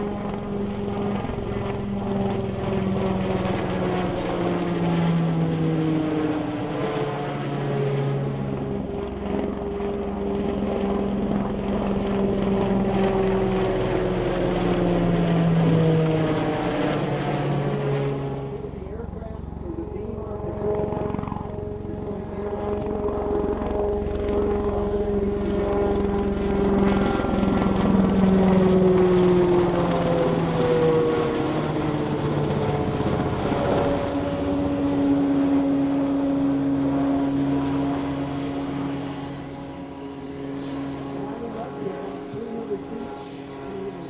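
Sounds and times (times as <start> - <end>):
helicopter flying past: 0.0 - 44.0.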